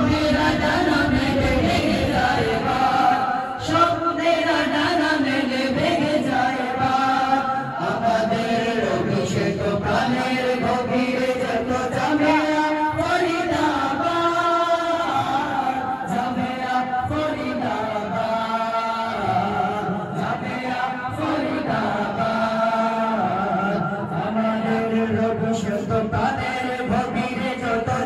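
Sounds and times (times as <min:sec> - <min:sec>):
boys singing into microphones: 0:00.0 - 0:28.0.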